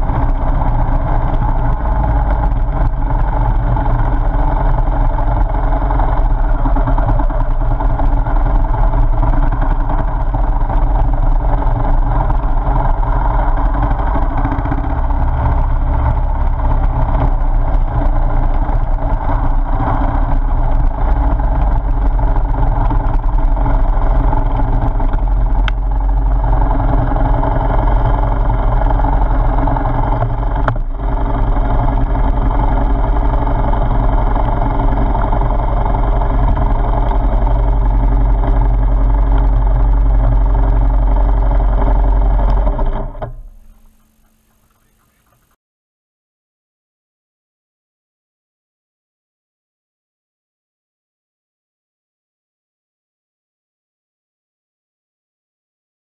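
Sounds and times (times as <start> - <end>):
motorcycle engine running: 0.0 - 45.6.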